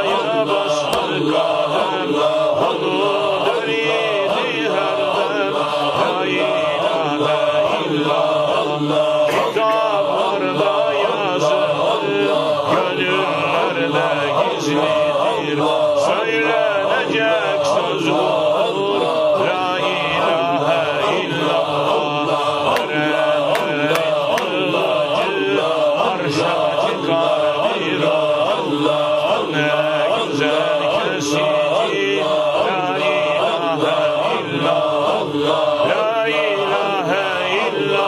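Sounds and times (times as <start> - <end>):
men chanting in rhythm: 0.0 - 38.0.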